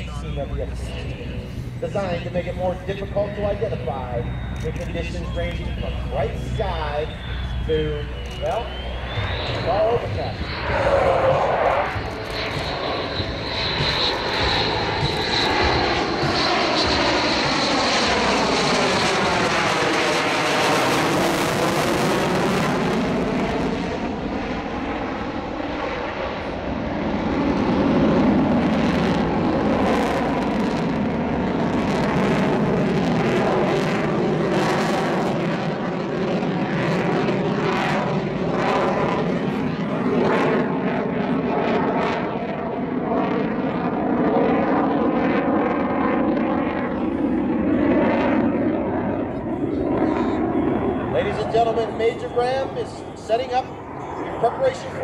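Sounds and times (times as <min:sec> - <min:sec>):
fighter jet engine roar: 0:00.0 - 0:55.0.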